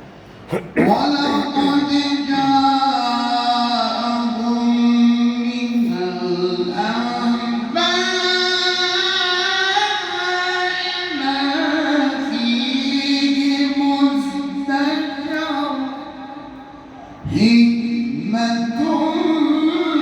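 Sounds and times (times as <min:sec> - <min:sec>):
man chanting melodically: 0:00.5 - 0:20.0.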